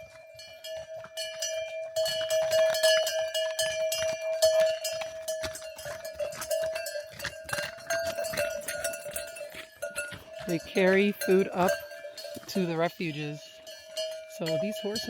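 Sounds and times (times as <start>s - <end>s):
horse bells clinking: 0.0s - 15.0s.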